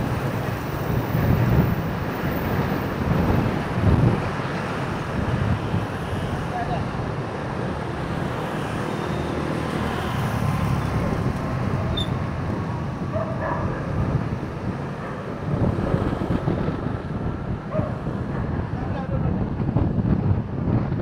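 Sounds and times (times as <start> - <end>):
road traffic: 0.0 - 21.0
wind rumbling on microphone: 0.0 - 21.0.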